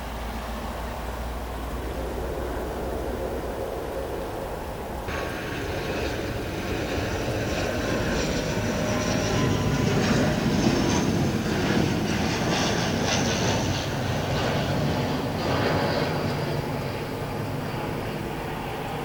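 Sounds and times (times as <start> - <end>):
airliner engine roar: 0.0 - 19.0.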